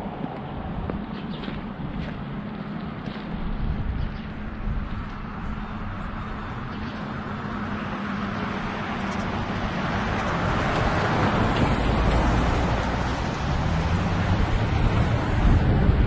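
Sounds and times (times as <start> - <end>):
car passing: 1.6 - 16.0.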